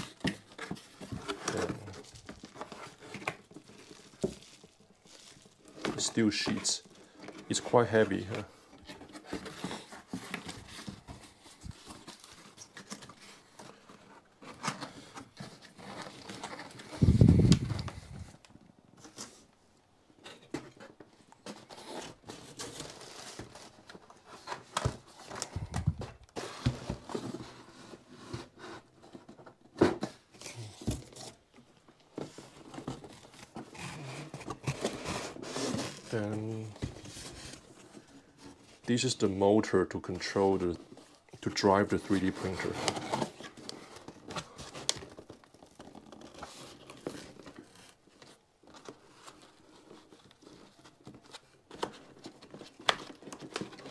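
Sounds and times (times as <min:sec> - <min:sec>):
cardboard rustling and scraping: 0:00.0 - 0:19.6, 0:20.2 - 0:53.9.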